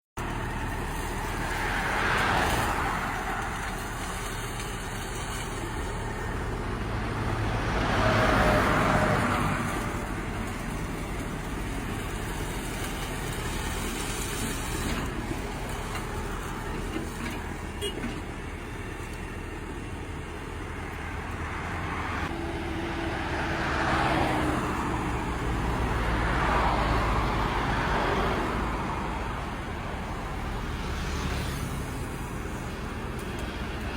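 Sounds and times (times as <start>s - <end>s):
heavy engine running: 0.2s - 33.9s.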